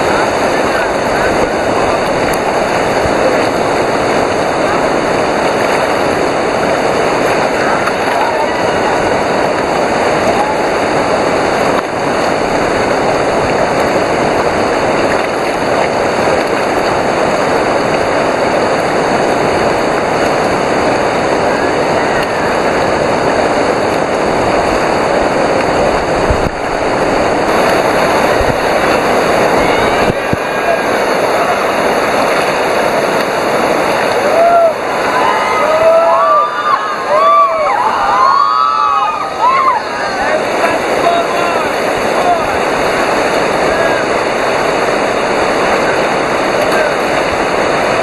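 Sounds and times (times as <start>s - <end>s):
whitewater river rapids rushing: 0.0s - 48.0s.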